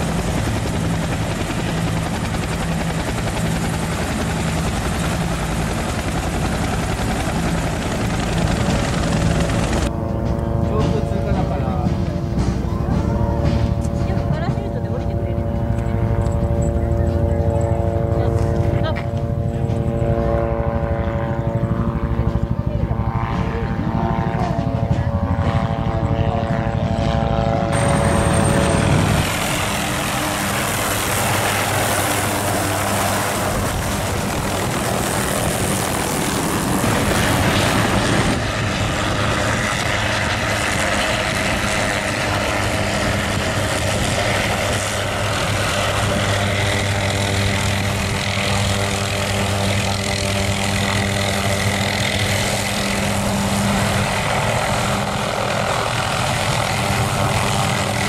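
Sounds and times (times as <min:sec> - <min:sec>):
helicopter rotor thudding: 0:00.0 - 0:20.2, 0:27.7 - 0:58.0
helicopter engine hum: 0:00.0 - 0:58.0
high turbine whine: 0:00.0 - 0:58.0.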